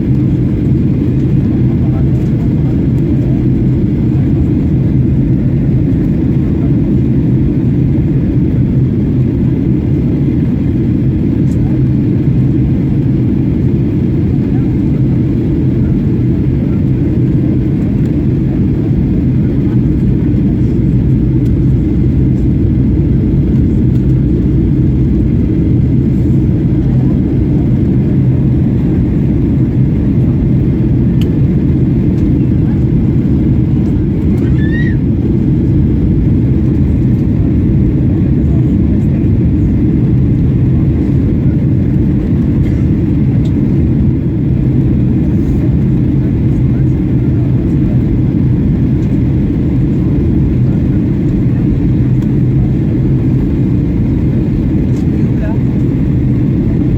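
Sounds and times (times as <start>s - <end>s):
airplane cabin engine noise: 0.0s - 56.9s.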